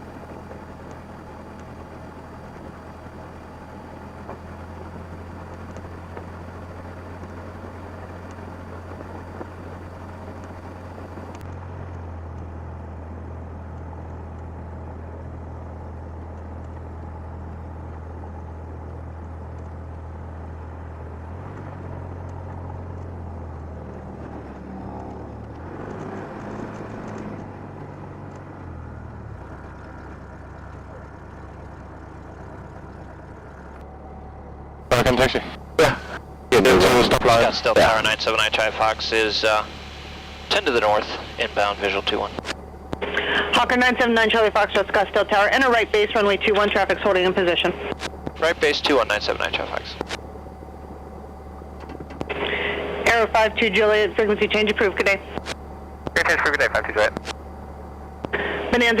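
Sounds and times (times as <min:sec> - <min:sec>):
light aircraft piston engine droning: 0:00.0 - 0:59.0.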